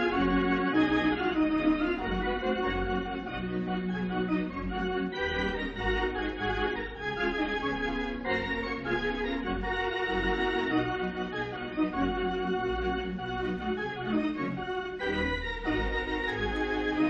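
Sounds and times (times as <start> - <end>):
organ chords: 0.0 - 17.0.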